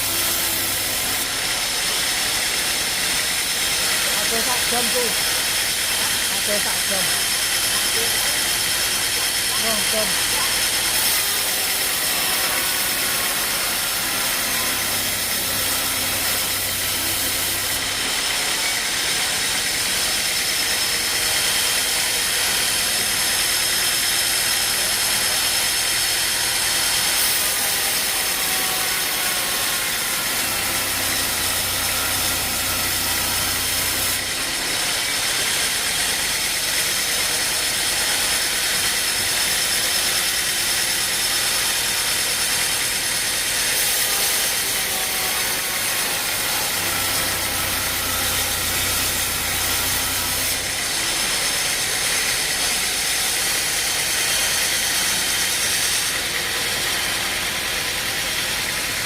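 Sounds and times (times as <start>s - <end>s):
wood-cutting machine running: 0.0s - 59.0s.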